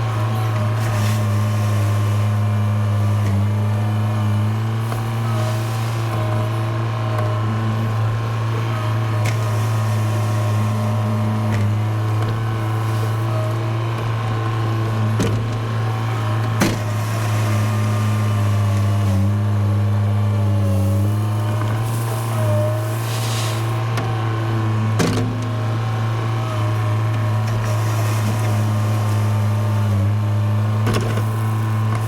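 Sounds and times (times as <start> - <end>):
heavy machine engine running: 0.0 - 32.0.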